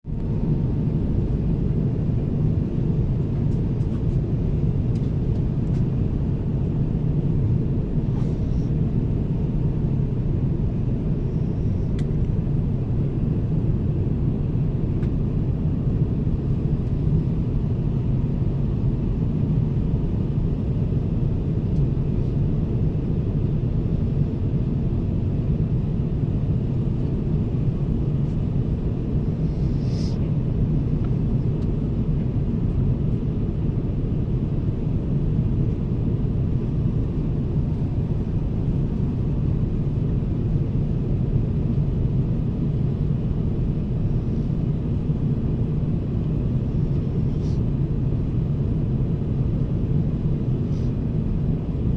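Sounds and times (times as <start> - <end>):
jet engine and airflow rumble: 0.0 - 51.9.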